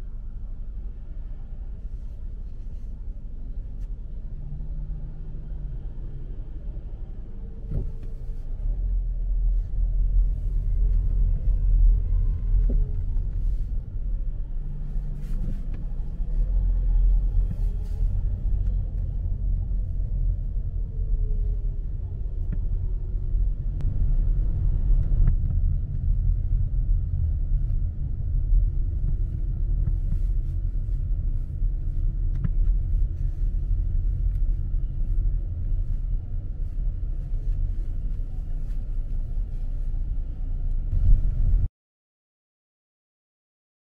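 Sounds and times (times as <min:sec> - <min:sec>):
city traffic rumble: 0:00.0 - 0:41.7.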